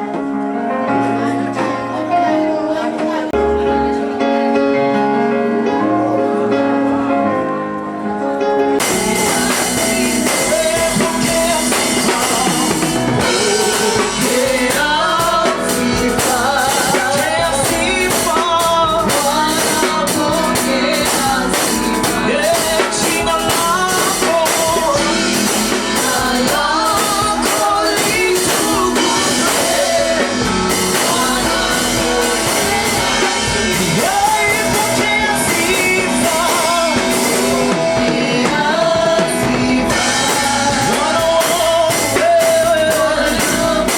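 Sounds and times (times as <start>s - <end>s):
person singing: 0.0s - 43.9s
rock band playing: 0.0s - 43.9s.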